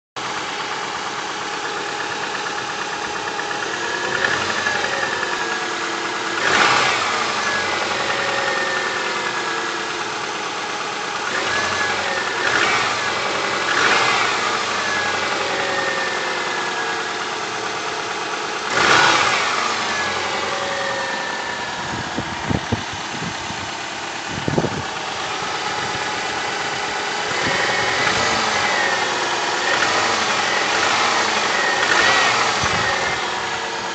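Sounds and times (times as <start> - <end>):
car engine idling and revving: 0.2 - 33.9.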